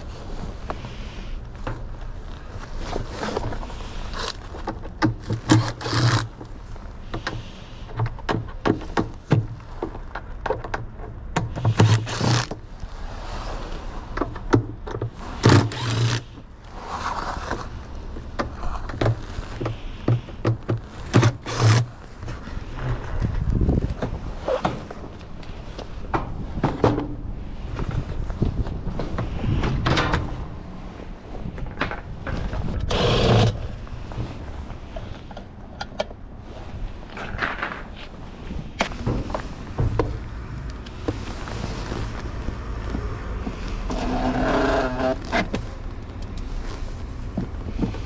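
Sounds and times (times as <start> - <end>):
scraping rustles: 0.0 - 10.4, 15.0 - 48.0.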